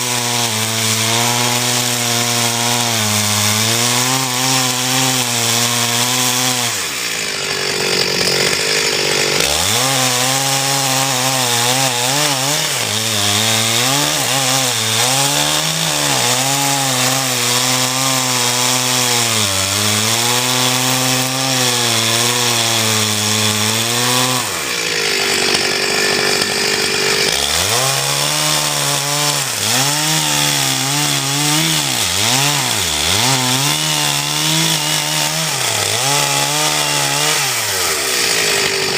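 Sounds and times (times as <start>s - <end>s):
log splitter motor running: 0.2s - 38.9s.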